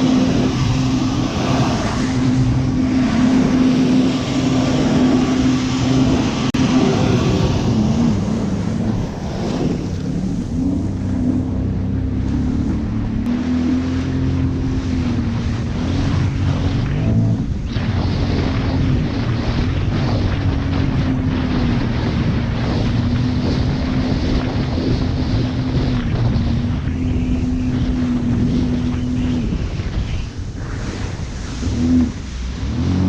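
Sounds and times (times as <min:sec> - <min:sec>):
jet ski engine running: 0:00.0 - 0:33.0
water rushing against hull: 0:00.0 - 0:33.0
wind buffeting microphone: 0:00.0 - 0:33.0.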